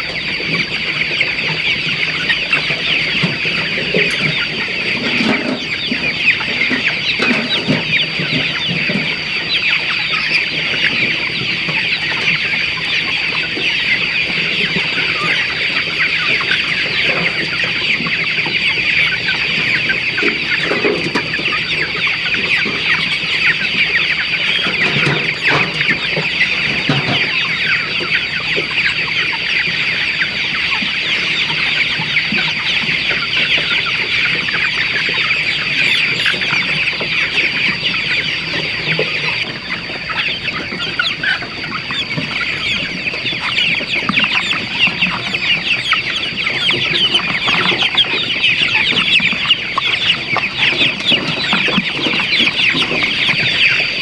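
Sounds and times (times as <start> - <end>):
flock of chickens clucking: 0.0 - 54.0.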